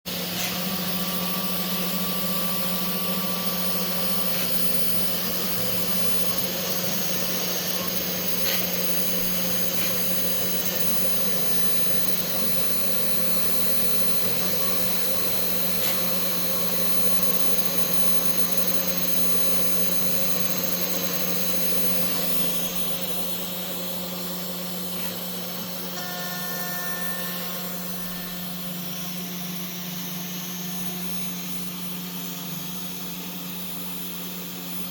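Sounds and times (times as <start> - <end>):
router spindle humming and hissing: 0.1 - 34.9.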